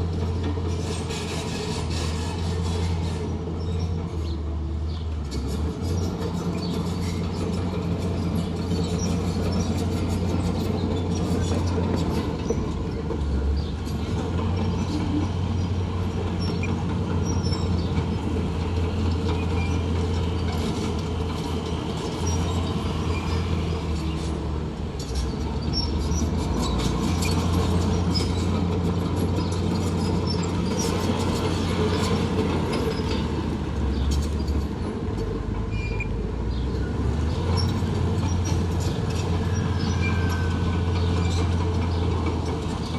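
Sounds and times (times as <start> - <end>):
diesel engine drone: 0.0 - 42.9
metallic clanks and squeaks: 0.1 - 42.9.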